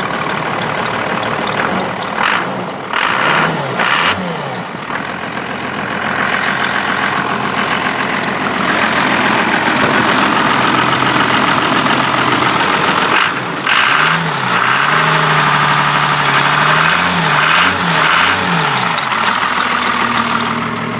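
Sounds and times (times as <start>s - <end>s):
diesel engine revving: 0.0s - 20.9s.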